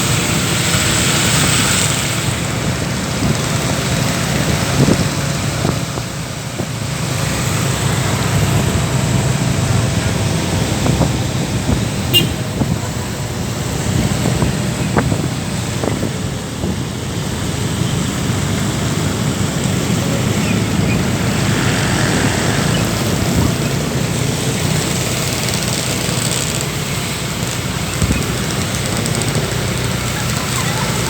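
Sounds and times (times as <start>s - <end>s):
traffic engines rumbling: 0.0s - 31.0s.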